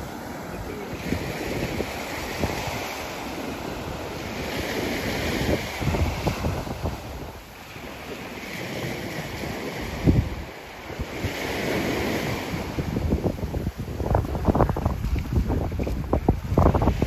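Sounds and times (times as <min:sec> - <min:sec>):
sea waves washing on beach: 0:00.0 - 0:17.0
wind buffeting microphone: 0:00.0 - 0:17.0.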